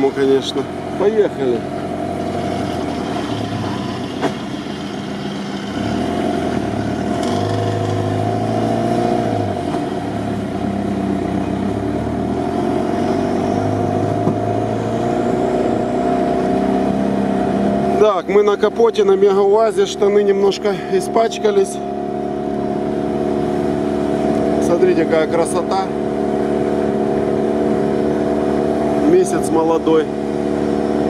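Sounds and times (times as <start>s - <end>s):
off-road vehicle engine running: 0.0s - 31.0s.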